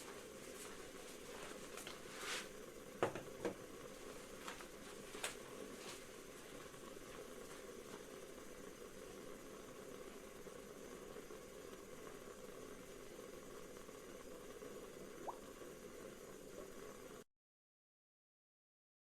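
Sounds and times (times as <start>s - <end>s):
faint steady hiss: 0.0s - 17.2s.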